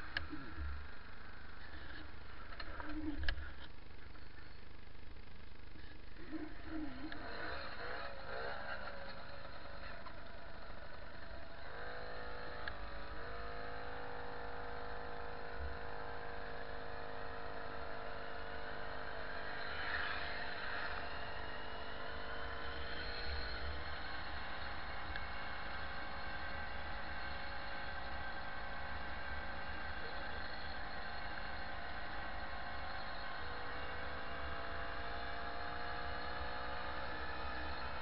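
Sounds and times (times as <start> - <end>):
moped engine running: 0.0 - 38.0.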